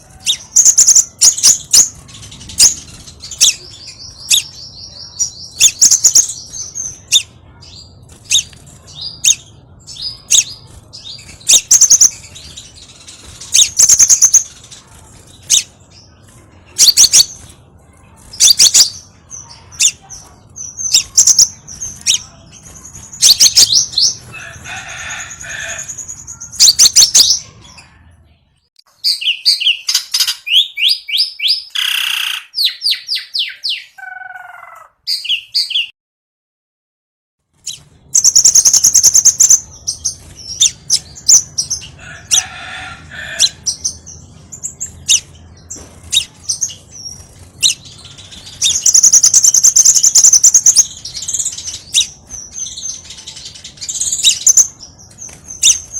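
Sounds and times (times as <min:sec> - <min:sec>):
high-pitched bird calls: 0:00.0 - 0:28.1, 0:28.9 - 0:35.9, 0:37.6 - 0:55.9.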